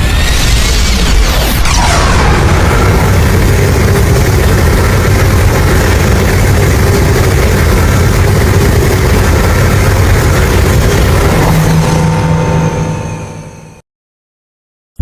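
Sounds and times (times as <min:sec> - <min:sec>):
loud steady rumbling: 0:00.0 - 0:13.8.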